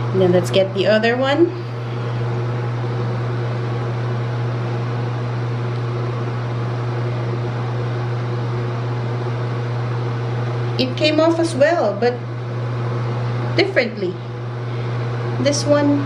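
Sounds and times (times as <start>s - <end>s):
electric motor hum: 0.0s - 16.0s.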